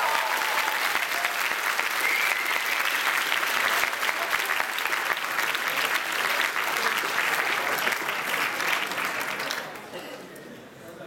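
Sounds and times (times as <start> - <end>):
audience clapping: 0.0 - 10.0.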